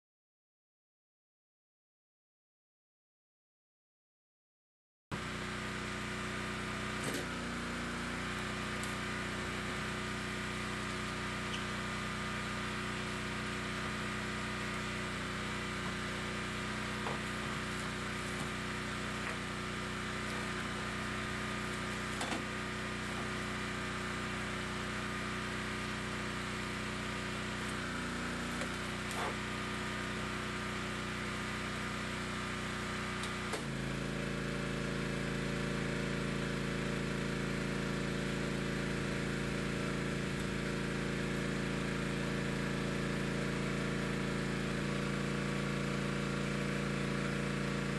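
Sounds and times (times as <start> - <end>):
electric blower and motor hum: 5.2 - 47.9.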